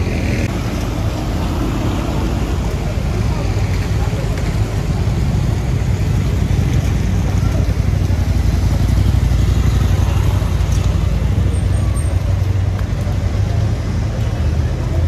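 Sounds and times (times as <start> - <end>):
motorcycles and cars passing: 0.0 - 15.0
people's voices: 0.0 - 15.0.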